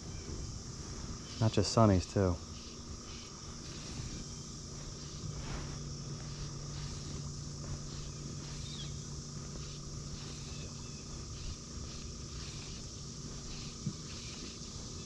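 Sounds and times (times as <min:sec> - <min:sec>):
insect chorus buzzing: 0:00.0 - 0:15.0
low steady hum: 0:00.0 - 0:15.0.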